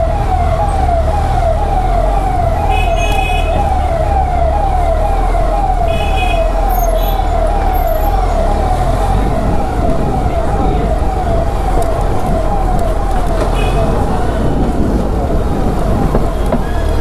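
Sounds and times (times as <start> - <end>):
engines rumbling in traffic: 0.0 - 17.0
siren wailing: 0.0 - 17.0.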